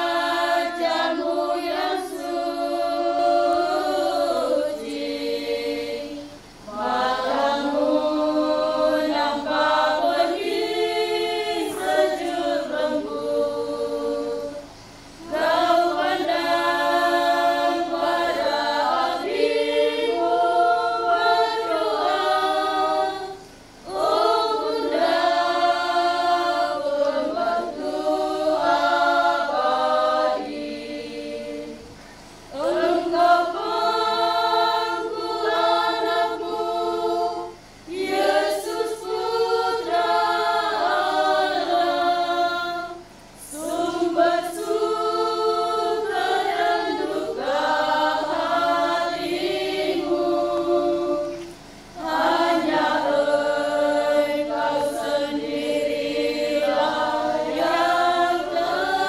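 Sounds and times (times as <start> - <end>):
women's choir singing hymn: 0.0 - 59.0.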